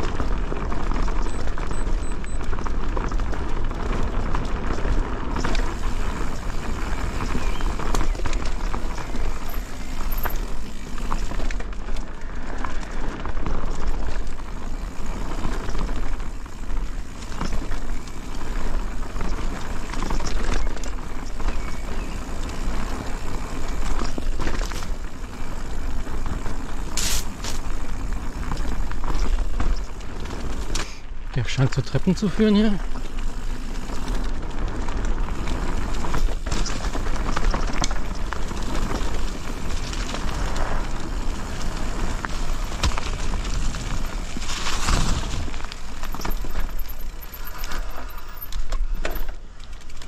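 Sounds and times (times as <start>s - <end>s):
bike clicks and rattles: 0.0s - 50.0s
tyres rolling over dirt and leaves: 0.0s - 50.0s.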